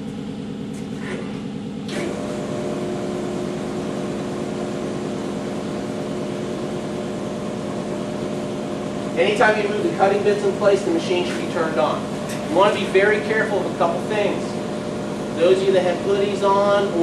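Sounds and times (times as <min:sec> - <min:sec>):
brake lathe humming: 0:00.0 - 0:17.0
steady machine whine: 0:00.0 - 0:17.0.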